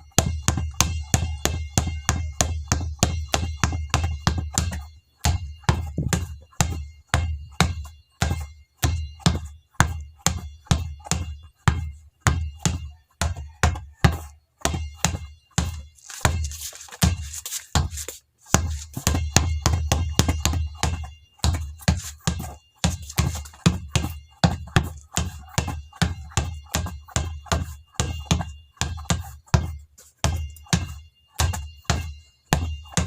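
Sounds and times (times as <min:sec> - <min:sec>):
basketball bouncing on hard floor: 0:00.1 - 0:33.0.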